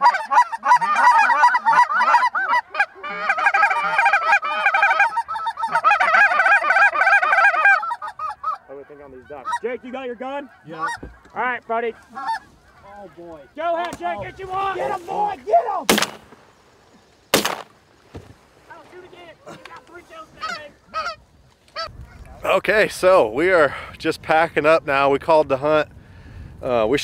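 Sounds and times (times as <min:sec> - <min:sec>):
geese honking: 0:00.0 - 0:22.3.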